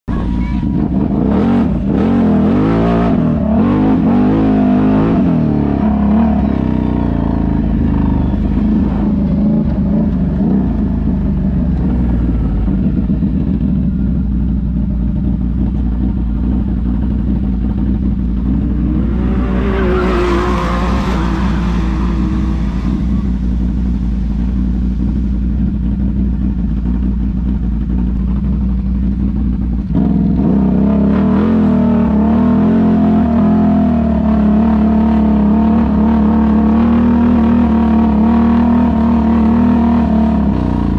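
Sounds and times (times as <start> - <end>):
atv engine running: 0.1 - 40.9.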